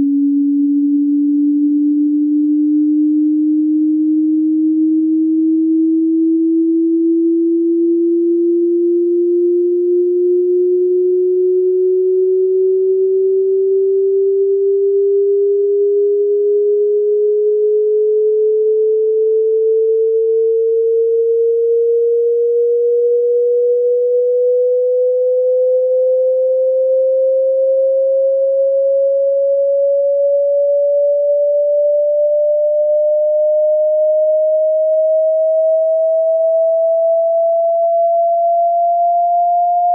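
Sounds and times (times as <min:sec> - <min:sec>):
rising sine tone sweep: 0:00.0 - 0:39.9.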